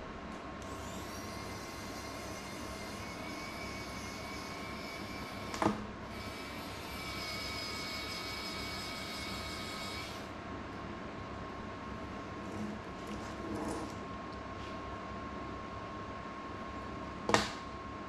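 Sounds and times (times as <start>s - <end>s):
electrical fan-like hum: 0.0s - 18.0s
faint steady whines: 0.0s - 18.0s.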